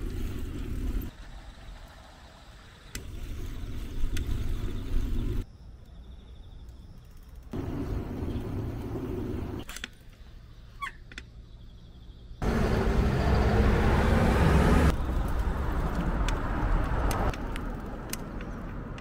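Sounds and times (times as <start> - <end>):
wind and road noise rumble: 0.0 - 5.5, 6.5 - 10.4, 12.4 - 19.0.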